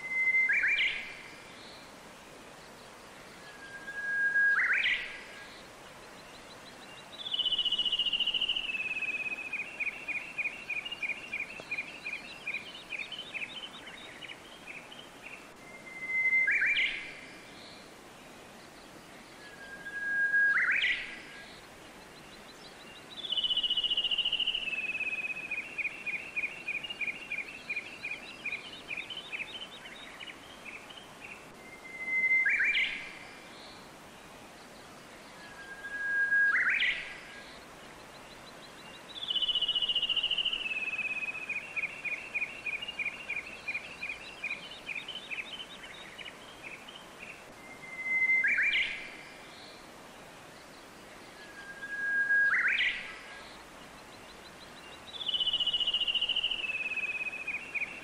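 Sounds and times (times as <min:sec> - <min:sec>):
songbird singing: 0:00.0 - 0:58.0
steady background hiss: 0:00.0 - 0:58.0.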